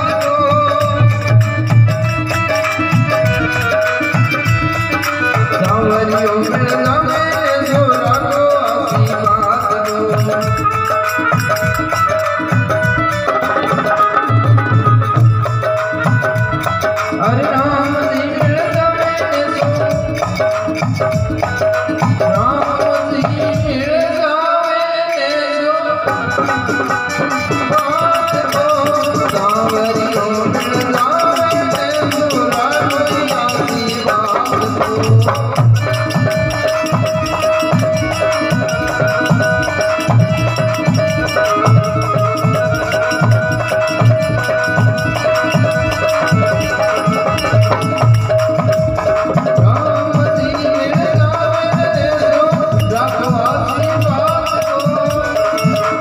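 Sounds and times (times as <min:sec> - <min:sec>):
devotional music: 0:00.0 - 0:56.0
dholak drum beat: 0:00.0 - 0:56.0.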